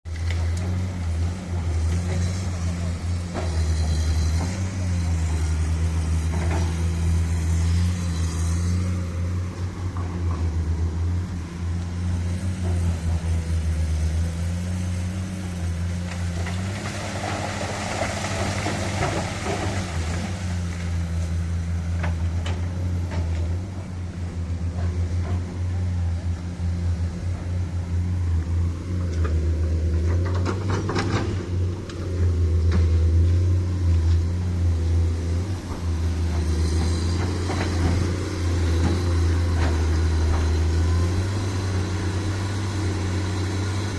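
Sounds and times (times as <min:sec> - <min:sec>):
truck diesel engine droning: 0:00.1 - 0:43.9.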